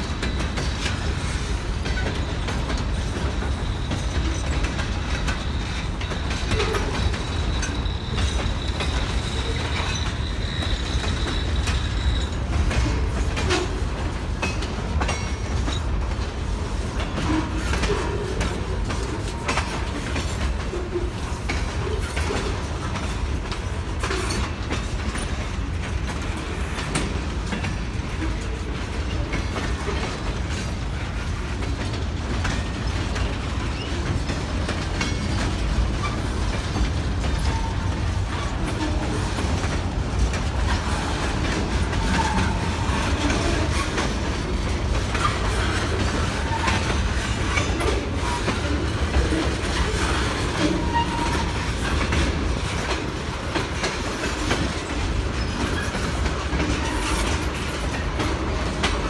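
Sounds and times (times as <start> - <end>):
train wheels rumbling: 0.0 - 59.0
wheels clanking over rail joints: 0.0 - 59.0.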